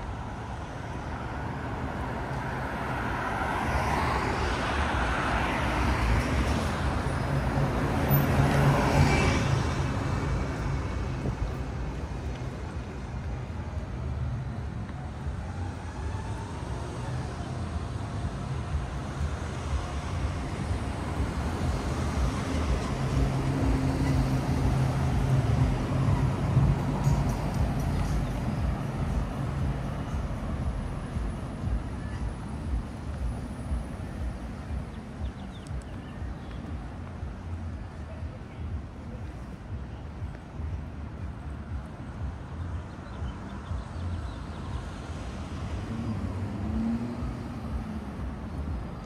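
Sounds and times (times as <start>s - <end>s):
cars driving past: 0.0s - 49.0s.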